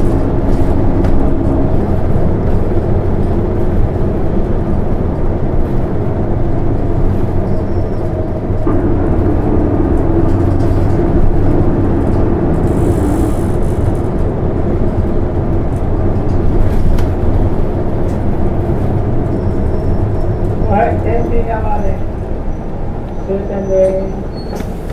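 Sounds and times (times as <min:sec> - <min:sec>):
steady droning tone: 0:00.0 - 0:23.9
bus diesel engine and road drone: 0:00.0 - 0:24.9.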